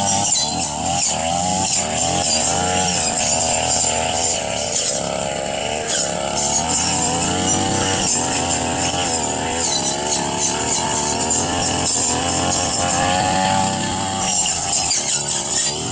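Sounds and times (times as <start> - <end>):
brush cutter engine: 0.0 - 15.9.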